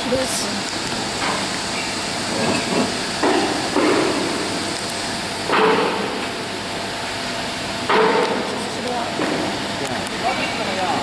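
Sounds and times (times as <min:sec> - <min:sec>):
workshop noise: 0:00.0 - 0:11.0.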